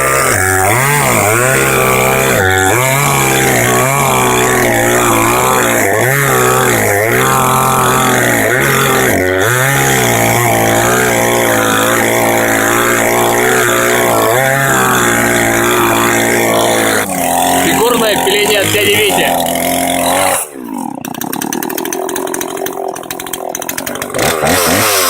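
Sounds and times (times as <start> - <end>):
chainsaw cutting into log: 0.0 - 25.0.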